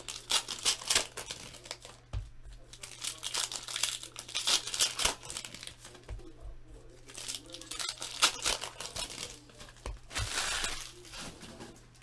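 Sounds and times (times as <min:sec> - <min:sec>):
foil wrappers tearing and crinkling: 0:00.0 - 0:02.0, 0:02.7 - 0:06.0, 0:07.0 - 0:12.0.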